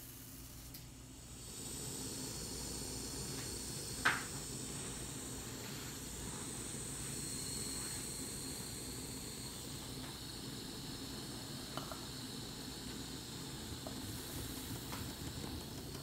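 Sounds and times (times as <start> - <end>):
steam hissing through valves: 0.0 - 16.0.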